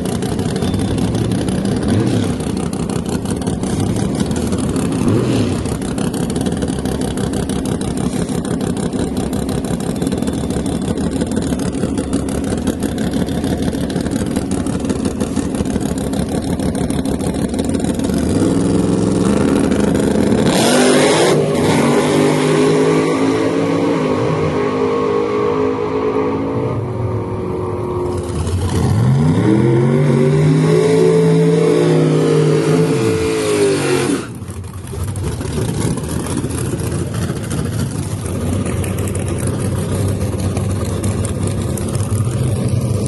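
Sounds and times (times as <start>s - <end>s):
drag car engines running: 0.0s - 43.0s
engine revving: 0.0s - 43.0s.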